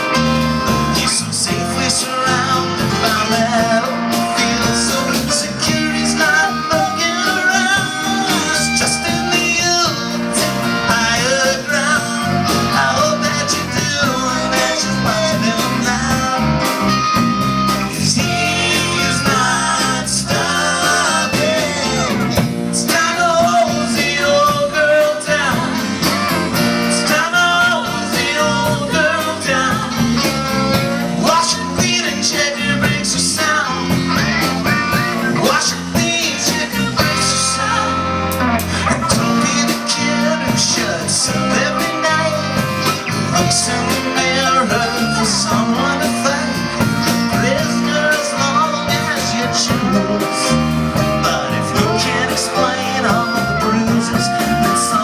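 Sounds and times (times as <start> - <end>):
person singing: 0.0 - 55.0
rock and roll band with guitar: 0.0 - 55.0.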